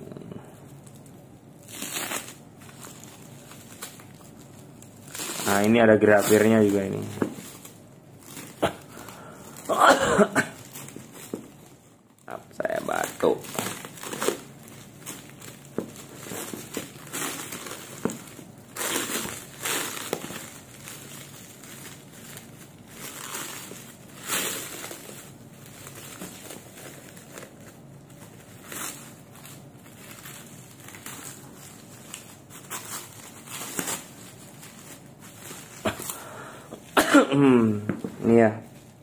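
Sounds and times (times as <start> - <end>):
plastic wrapping crinkling: 0.1 - 37.0.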